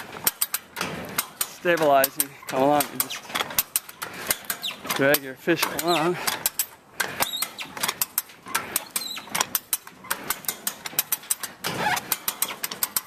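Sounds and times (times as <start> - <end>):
ratchet pawl clicking: 1.2 - 13.0.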